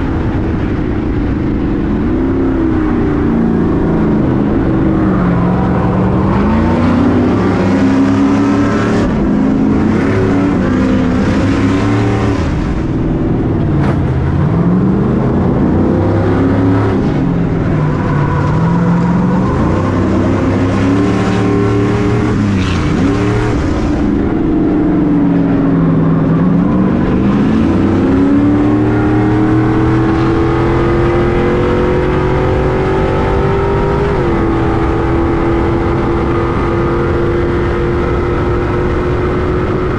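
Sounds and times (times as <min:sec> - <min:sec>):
racing truck engine revving: 0:00.0 - 0:39.9.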